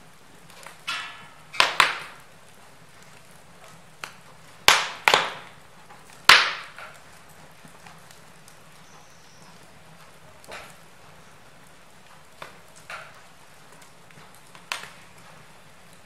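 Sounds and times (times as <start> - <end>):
wood logs crackling in fireplace: 0.0 - 16.0
sharp pops from burning wood: 0.1 - 16.0.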